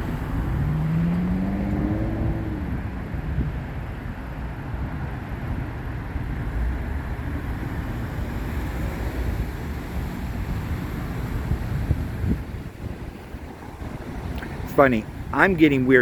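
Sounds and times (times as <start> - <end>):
freeway traffic rumble: 0.0 - 16.0.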